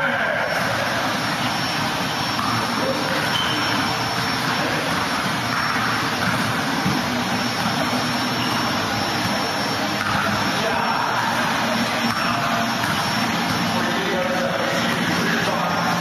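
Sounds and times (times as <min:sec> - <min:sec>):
loud steady rushing roar: 0:00.0 - 0:16.0.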